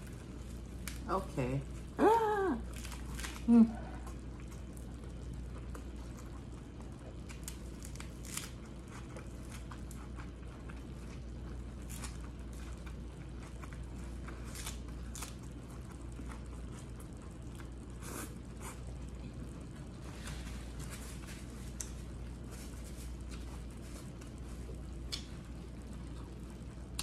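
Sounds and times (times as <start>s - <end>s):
person chewing lettuce wrap: 0.0s - 1.0s, 2.6s - 27.0s
low steady hum: 0.0s - 27.0s.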